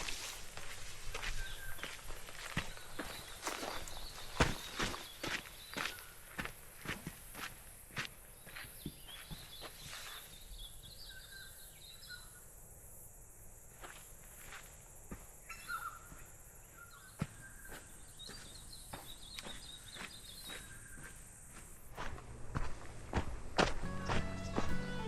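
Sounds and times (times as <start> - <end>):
birds chirping: 0.0 - 7.1, 8.1 - 12.4, 15.1 - 25.0
footsteps on walking track: 0.0 - 10.3, 13.8 - 25.0.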